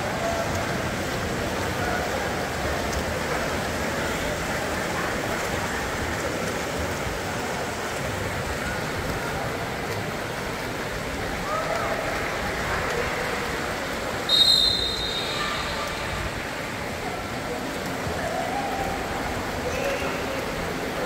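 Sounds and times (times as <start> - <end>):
swimmers splashing water: 0.0 - 21.0.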